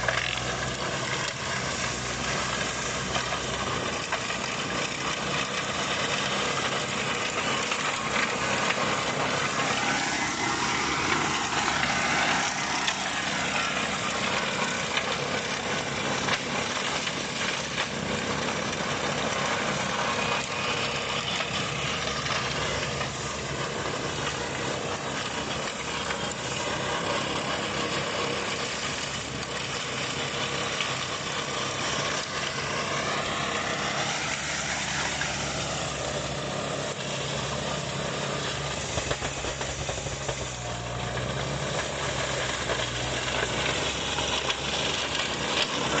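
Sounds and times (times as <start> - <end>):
mulcher engine running: 0.0 - 46.0.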